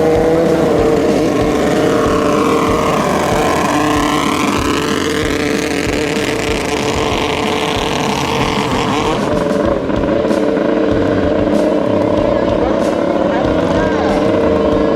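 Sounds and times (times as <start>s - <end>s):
speedboat engines racing: 0.0s - 14.9s.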